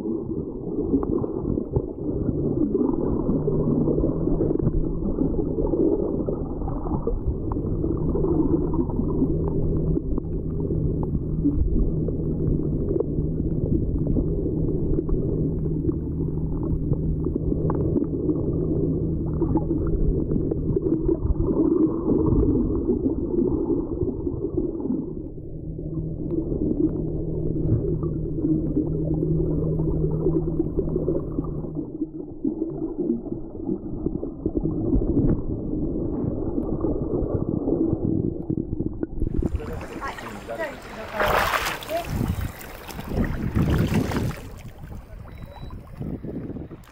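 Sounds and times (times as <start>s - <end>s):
steady low hum: 0.0s - 46.9s
underwater wash of water: 0.0s - 46.9s.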